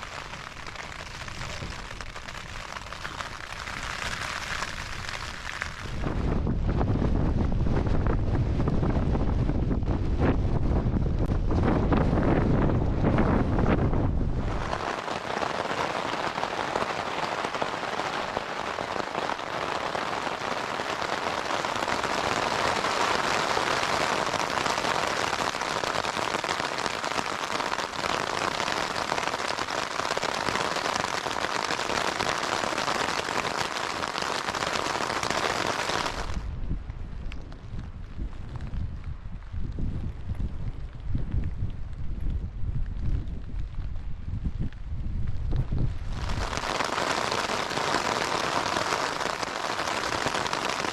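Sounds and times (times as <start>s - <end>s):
heavy rain on a tent: 0.0s - 50.9s
wind rumbling on microphone: 0.0s - 50.9s.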